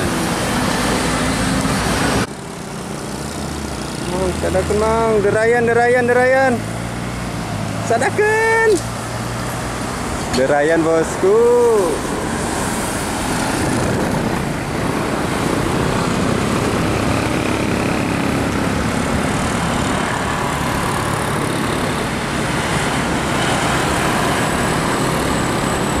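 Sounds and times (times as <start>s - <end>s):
bus driving past: 0.0s - 5.3s, 6.4s - 26.0s
cars and motorcycles passing: 0.0s - 26.0s.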